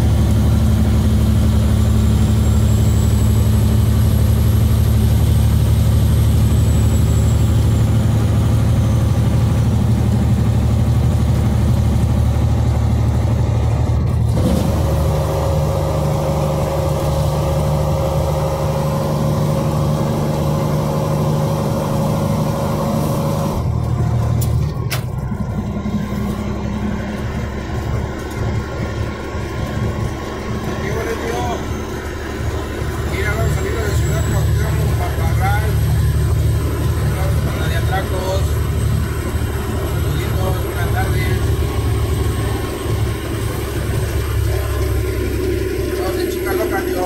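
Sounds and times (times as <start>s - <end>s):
truck diesel engine running: 0.0s - 47.0s.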